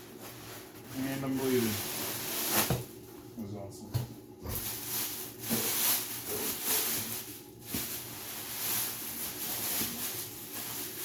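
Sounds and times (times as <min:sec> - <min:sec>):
packaging rustling: 0:00.0 - 0:03.0, 0:04.5 - 0:11.0.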